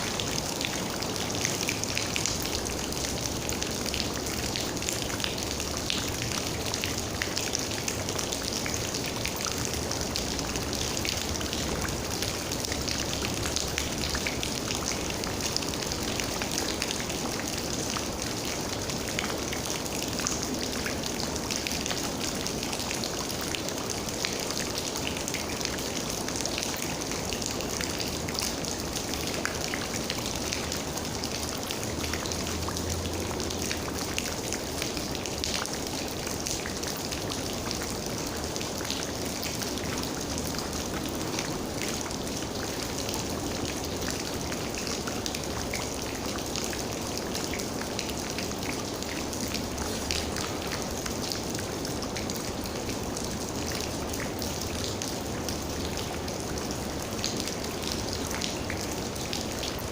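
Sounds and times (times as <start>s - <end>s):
raindrops pattering: 0.0s - 59.9s.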